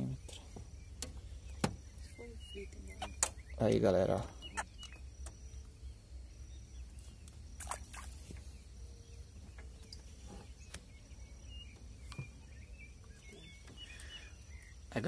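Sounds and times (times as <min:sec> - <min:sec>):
faint high chirps: 0:00.0 - 0:15.0.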